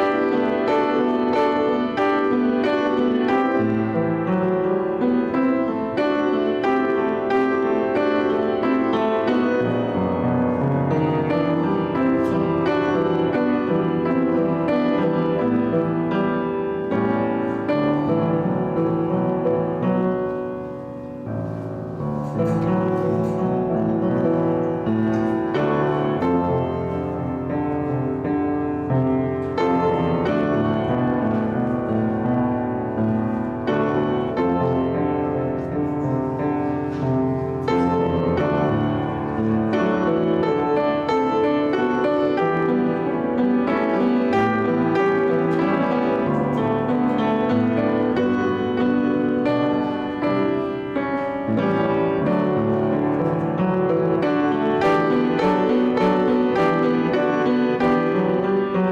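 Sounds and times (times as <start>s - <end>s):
solo piano music: 0.0s - 58.9s.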